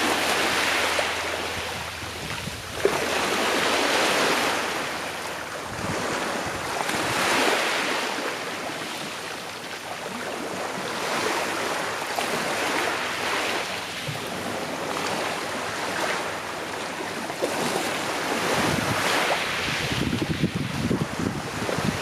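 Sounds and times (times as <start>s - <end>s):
sea waves washing onto shore: 0.0s - 22.0s
wind rumble on microphone: 0.0s - 22.0s.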